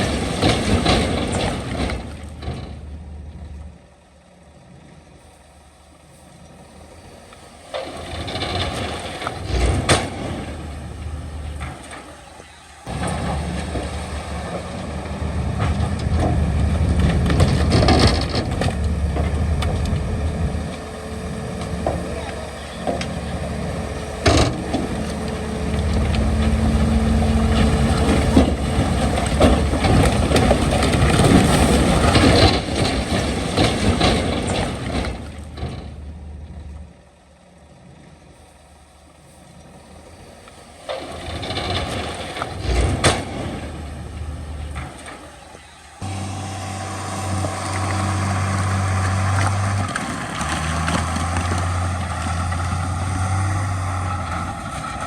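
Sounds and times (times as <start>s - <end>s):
diesel earthmoving machinery: 0.0s - 55.0s
low engine hum: 0.0s - 55.0s.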